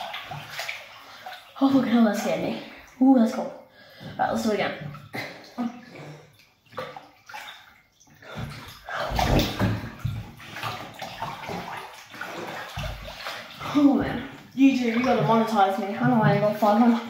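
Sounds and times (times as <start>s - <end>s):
bathwater sloshing and splashing: 0.0s - 17.0s.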